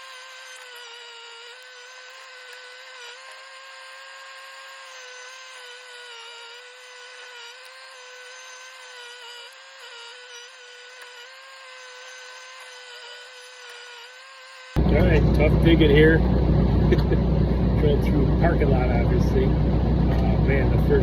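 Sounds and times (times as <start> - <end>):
hydraulic auger drilling into ground: 0.0 - 21.0.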